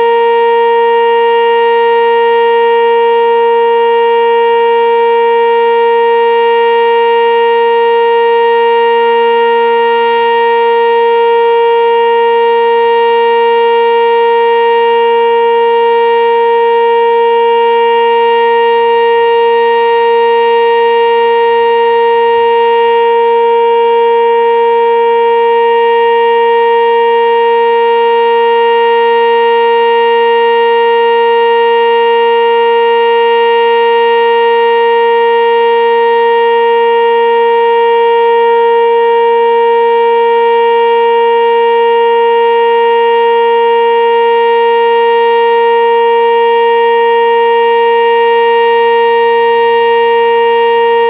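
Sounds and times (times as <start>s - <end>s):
two-tone siren: 0.0s - 51.0s.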